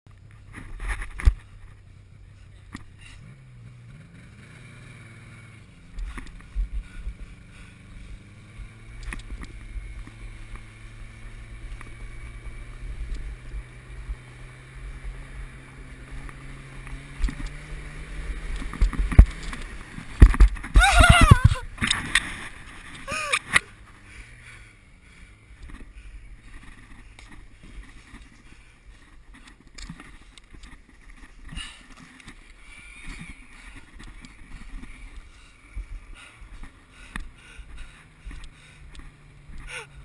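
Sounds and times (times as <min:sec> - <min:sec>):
snowmobile engine running: 0:00.3 - 0:40.0.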